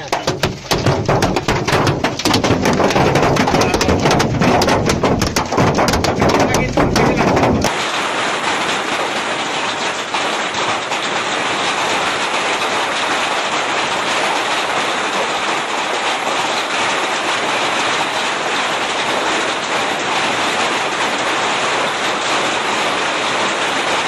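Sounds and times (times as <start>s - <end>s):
hailstones clattering: 0.0s - 24.0s.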